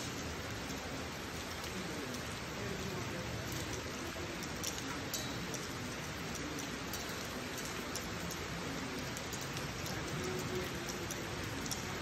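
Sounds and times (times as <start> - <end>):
rain falling on asphalt: 0.0 - 12.0
sharp raindrop ticks: 0.0 - 12.0.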